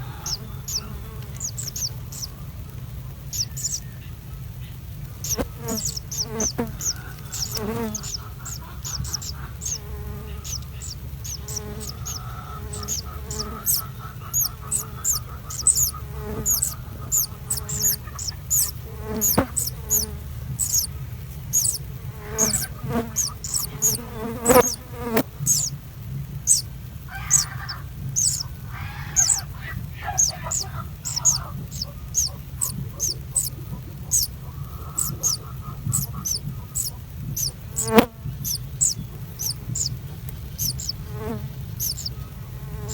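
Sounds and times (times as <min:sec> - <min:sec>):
nestling birds cheeping: 0:00.0 - 0:42.9
steady low hum: 0:00.0 - 0:42.9.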